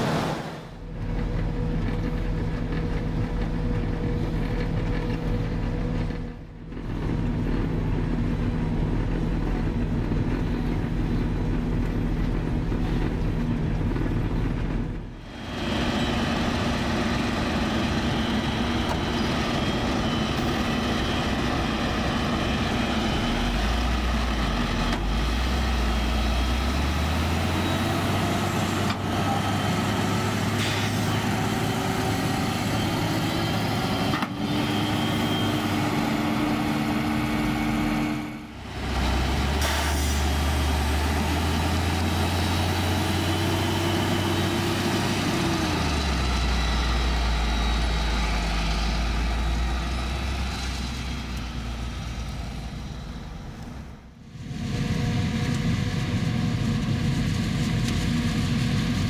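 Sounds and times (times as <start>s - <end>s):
forage harvester engine drone: 0.0s - 59.0s
truck engine running: 0.0s - 59.0s.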